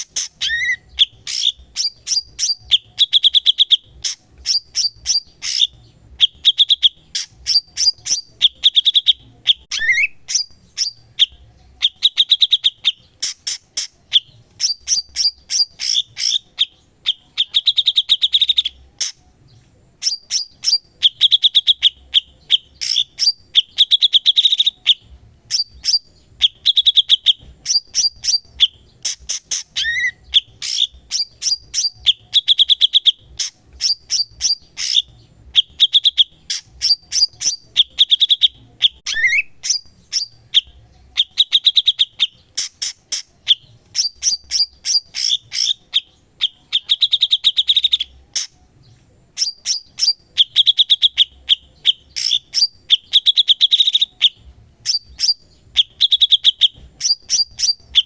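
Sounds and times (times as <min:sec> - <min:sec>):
bird singing fast trills: 0:00.0 - 0:58.0.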